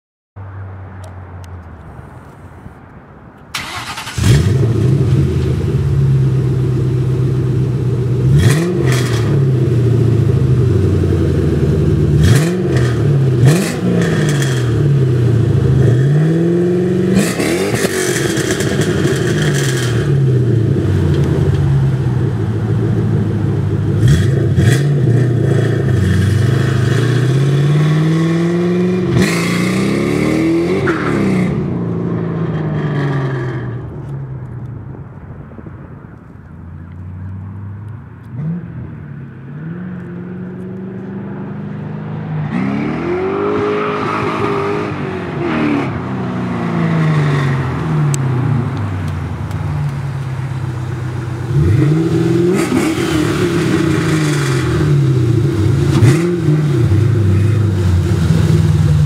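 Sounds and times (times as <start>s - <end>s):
car engine idling and revving: 0.5s - 59.0s.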